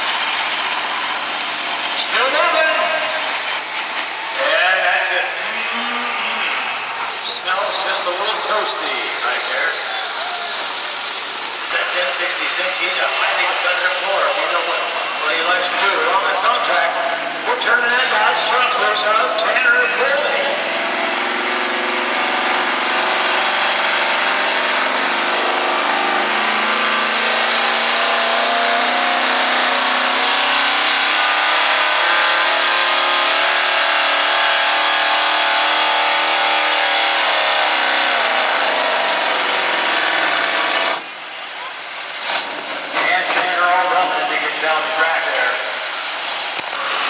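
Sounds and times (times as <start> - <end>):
pickup engine at full throttle: 0.0 - 47.0.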